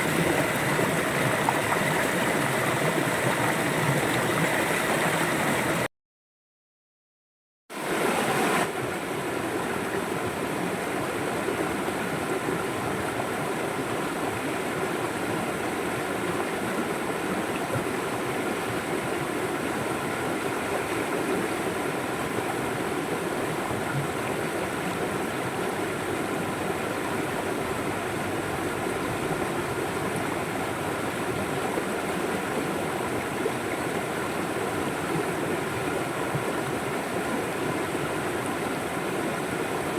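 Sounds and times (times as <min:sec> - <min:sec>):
river water rushing and babbling: 0:00.0 - 0:05.9, 0:07.8 - 0:39.9.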